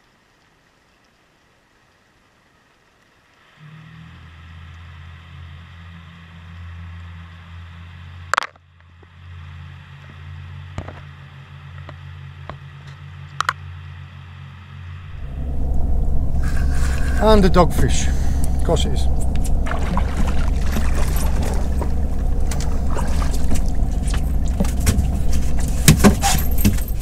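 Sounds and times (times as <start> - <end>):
boat engine humming: 3.6 - 27.0.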